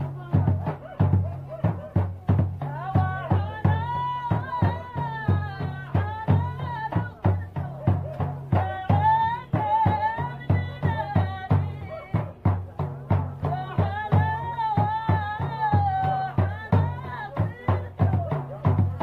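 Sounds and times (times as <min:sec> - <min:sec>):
drums beating steady rhythm: 0:00.0 - 0:19.0.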